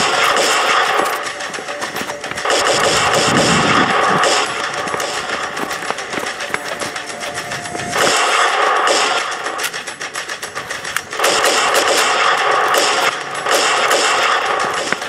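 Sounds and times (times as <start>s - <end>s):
rapid gunfire: 0.0s - 15.0s.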